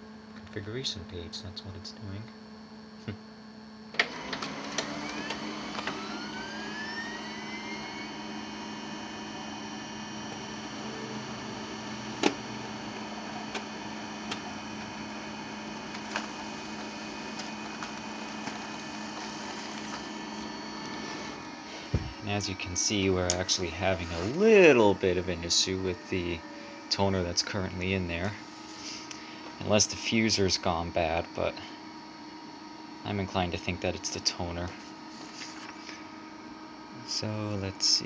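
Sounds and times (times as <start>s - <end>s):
laser printer running: 0.8s - 38.0s
printer motors whining: 3.9s - 38.0s.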